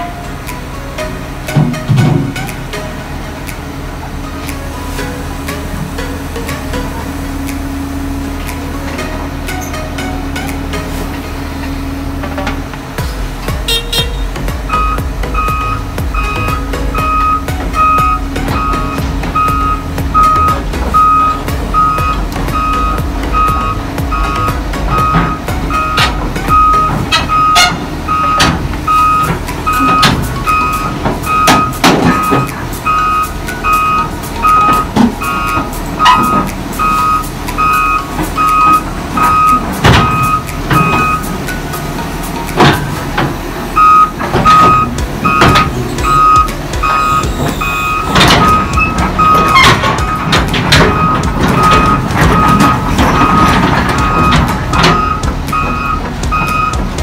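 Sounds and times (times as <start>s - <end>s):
excavator travel alarm beeping: 0.0s - 12.6s, 13.6s - 57.0s
diesel engine running: 0.0s - 57.0s
metal clanks from tracks: 0.0s - 57.0s.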